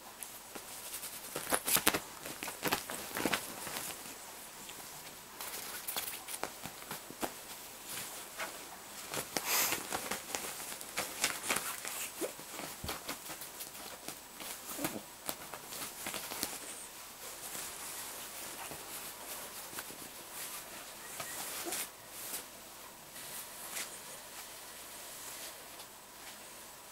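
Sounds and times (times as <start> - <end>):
bedding rustling and scratching: 0.0 - 26.6.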